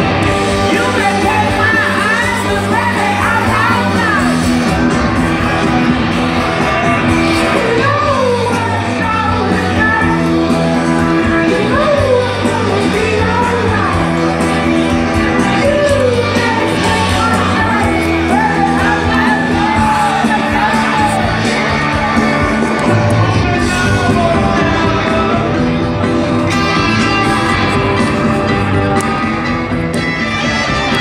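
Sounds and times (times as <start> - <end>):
live rock band playing: 0.0 - 31.0
man singing lead vocals: 0.5 - 4.8, 5.4 - 28.7.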